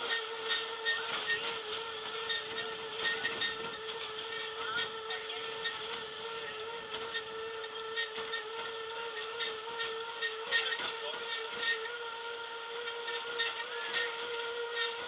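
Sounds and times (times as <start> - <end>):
low rumble of travel noise: 0.0 - 15.0
tram car steady high whine: 0.0 - 15.0.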